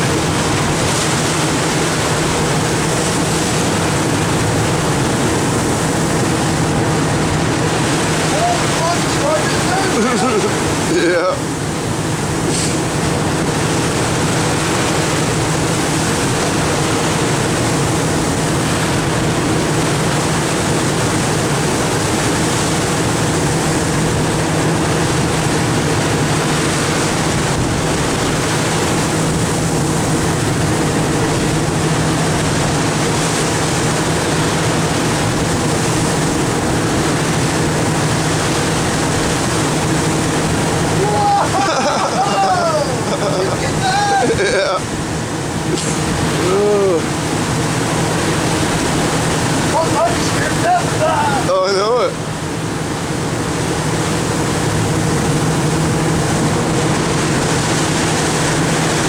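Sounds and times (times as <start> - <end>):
boat engine running: 0.0 - 59.0
rushing water: 0.0 - 59.0
wind: 0.0 - 59.0.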